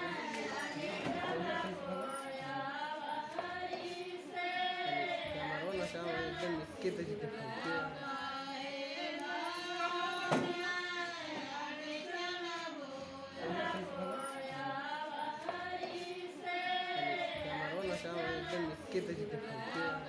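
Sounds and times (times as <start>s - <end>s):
voices singing a slow song: 0.0s - 20.0s.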